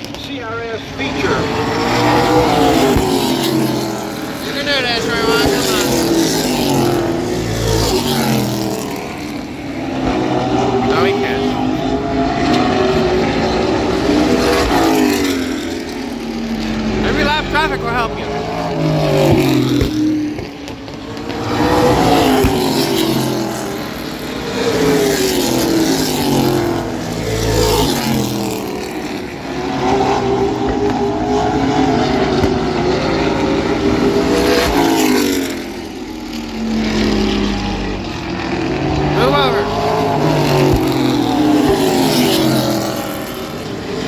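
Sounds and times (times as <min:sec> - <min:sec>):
race truck engines revving: 0:00.0 - 0:44.0.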